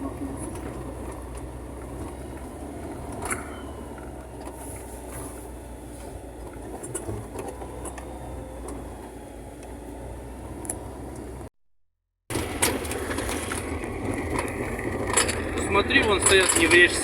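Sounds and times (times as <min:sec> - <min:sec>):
engine and road rumble: 0:00.0 - 0:11.6, 0:12.2 - 0:17.0.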